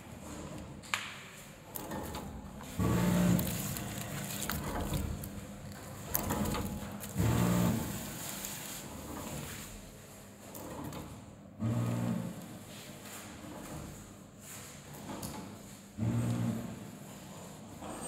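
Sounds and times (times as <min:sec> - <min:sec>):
packing machine hum: 0:01.6 - 0:14.1, 0:14.8 - 0:17.0.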